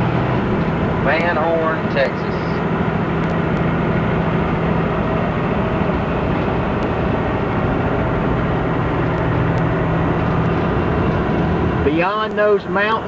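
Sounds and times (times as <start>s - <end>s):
road and wind noise: 0.0s - 13.0s
truck diesel engine droning: 0.0s - 13.0s.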